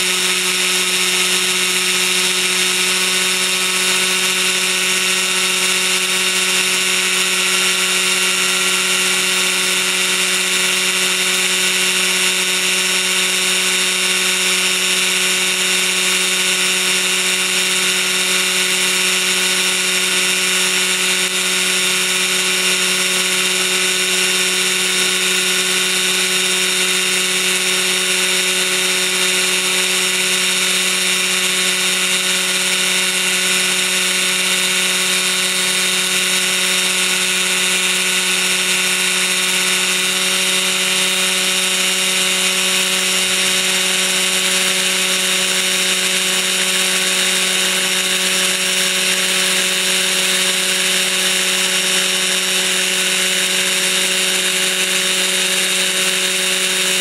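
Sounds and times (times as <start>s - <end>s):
model helicopter engine running: 0.0s - 57.0s.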